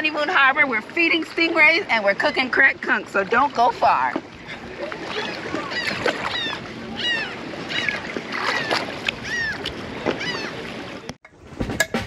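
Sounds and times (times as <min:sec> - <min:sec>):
water washing in shallow sea: 0:00.0 - 0:11.7
wind: 0:00.0 - 0:12.0.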